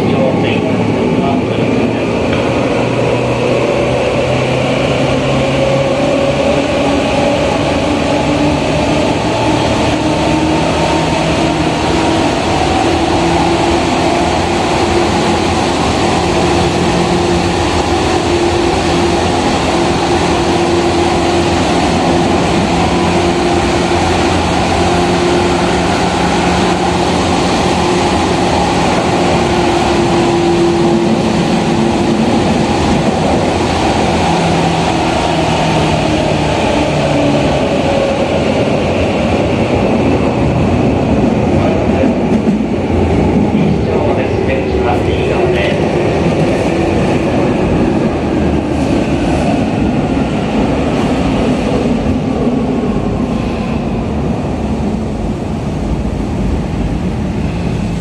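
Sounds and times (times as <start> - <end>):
wheels rumbling in tunnel: 0.0 - 58.0.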